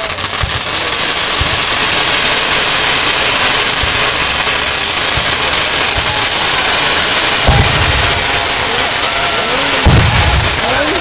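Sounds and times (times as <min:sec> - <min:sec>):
firework fountain hissing: 0:00.0 - 0:11.0.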